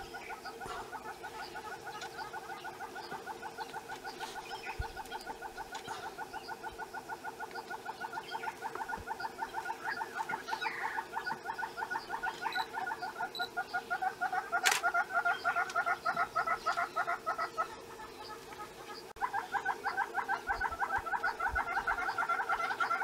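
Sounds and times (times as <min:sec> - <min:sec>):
hornbill piping call: 0:00.0 - 0:23.0.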